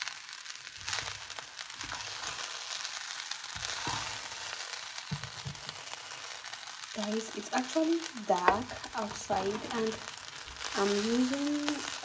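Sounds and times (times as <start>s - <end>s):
rice sizzling in a frying pan: 0.0s - 12.0s.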